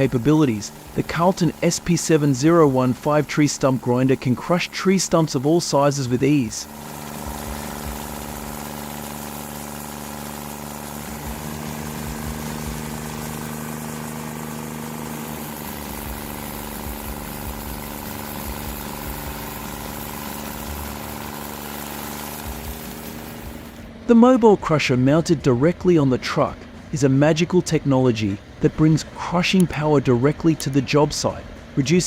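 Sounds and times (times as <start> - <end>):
stump grinder engine running: 0.0 - 32.0.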